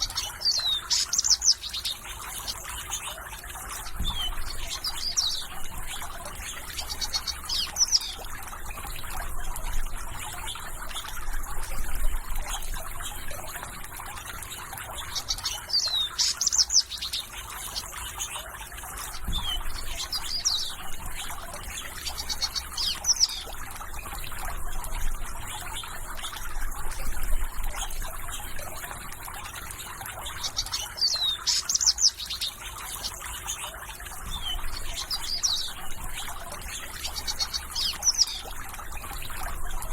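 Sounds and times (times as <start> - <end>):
birds chirping: 0.0 - 39.9
trickling water: 0.0 - 39.9.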